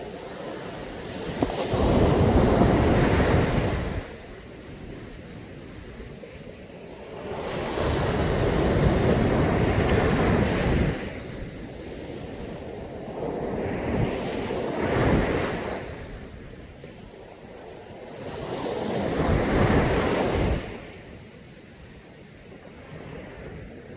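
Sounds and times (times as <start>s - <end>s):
low wash of surf: 0.0s - 23.9s
waves breaking on beach: 0.0s - 23.9s.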